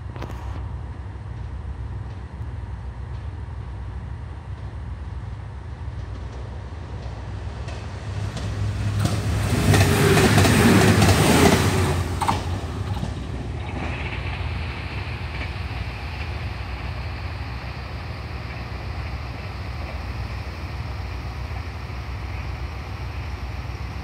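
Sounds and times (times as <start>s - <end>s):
idling railcar diesel hum: 0.0s - 24.0s
train passing through station: 0.0s - 24.0s.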